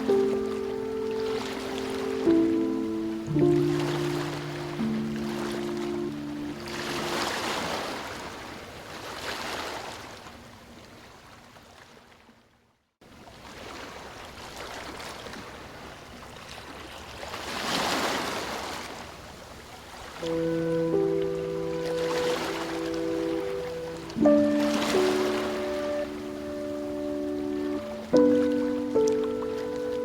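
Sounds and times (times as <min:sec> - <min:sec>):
ocean waves breaking on beach: 0:00.0 - 0:10.4, 0:13.2 - 0:30.0.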